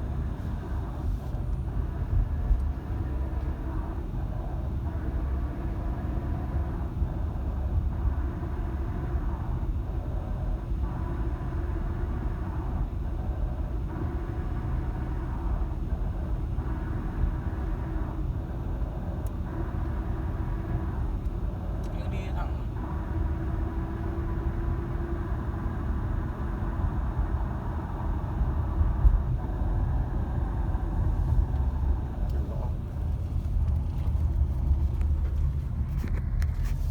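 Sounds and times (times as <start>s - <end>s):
vehicle drivetrain and road rumble: 0.0s - 36.9s.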